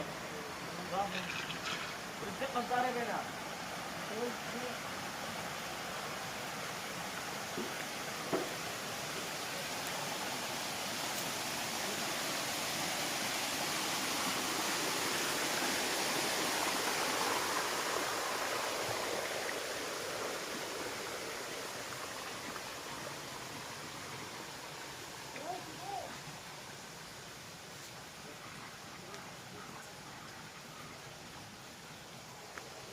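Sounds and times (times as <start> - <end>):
flowing water rushing: 0.0 - 32.9.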